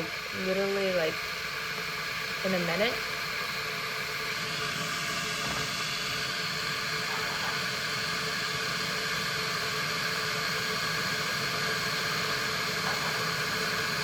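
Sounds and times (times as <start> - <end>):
electric kettle heating water: 0.0 - 14.0.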